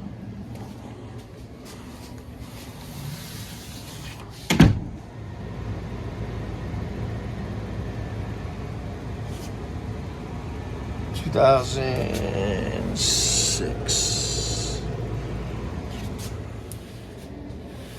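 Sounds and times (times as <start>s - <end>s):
low mechanical hum: 0.0s - 17.9s.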